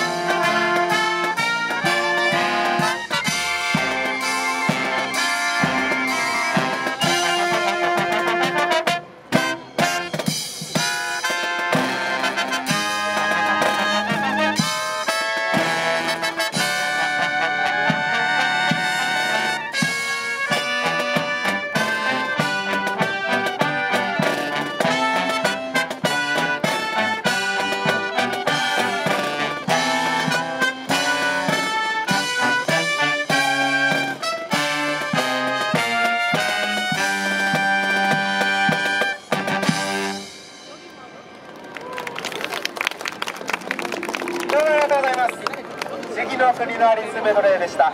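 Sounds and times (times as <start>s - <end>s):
brass marching band playing: 0.0s - 41.5s, 42.4s - 47.9s.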